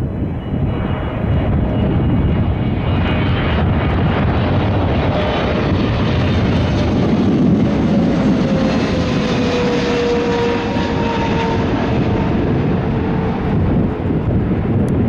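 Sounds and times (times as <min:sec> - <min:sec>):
jet engine passing: 0:00.0 - 0:15.0.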